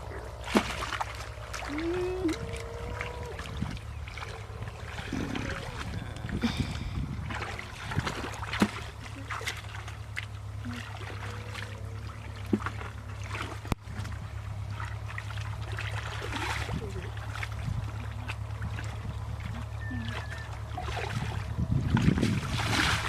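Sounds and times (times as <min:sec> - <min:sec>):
steady low rumble: 0:00.0 - 0:23.0
water trickling and splashing: 0:00.0 - 0:23.0.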